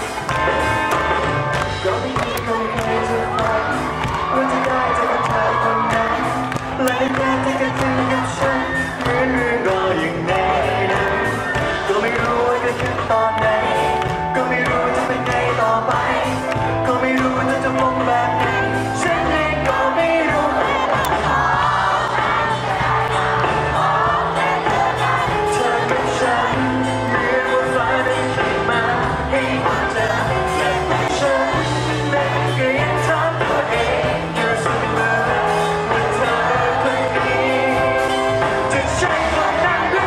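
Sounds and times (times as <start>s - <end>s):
live band with guitars and bass: 0.0s - 40.0s
man singing pop-rock song: 0.0s - 40.0s.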